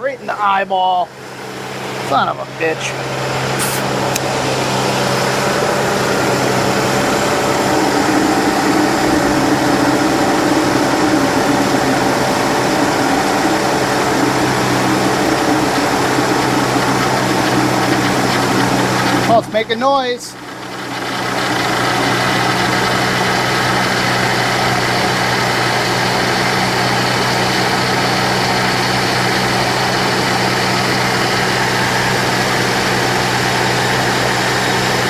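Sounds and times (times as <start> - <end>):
car engine idling: 0.0 - 35.0
power steering pump noise: 1.3 - 35.0.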